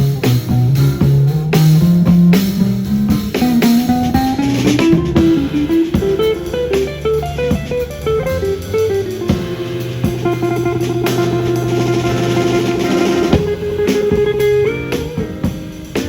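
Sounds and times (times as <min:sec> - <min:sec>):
guitar melody: 0:00.0 - 0:16.0
sharp hits: 0:00.8 - 0:16.0.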